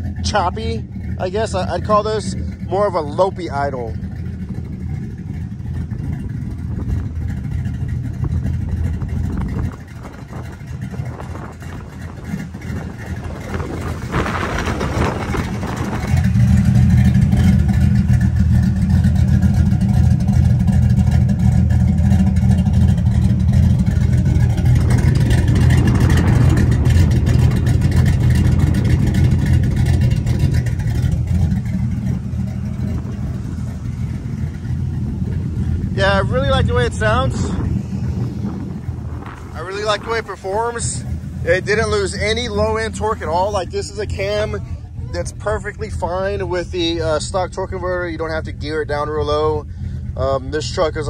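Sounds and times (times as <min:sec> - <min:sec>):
truck engine idling: 0:00.0 - 0:51.0.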